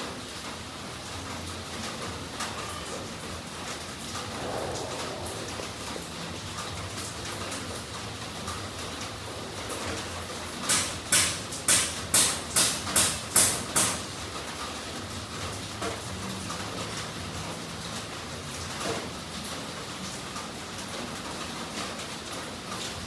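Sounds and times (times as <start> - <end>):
low steady background noise: 0.0 - 23.0.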